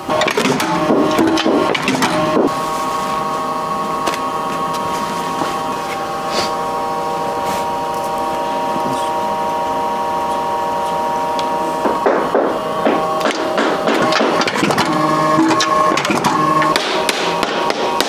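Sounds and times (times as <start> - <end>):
rough machine noise: 0.0 - 18.0
workshop machine humming: 0.0 - 18.0.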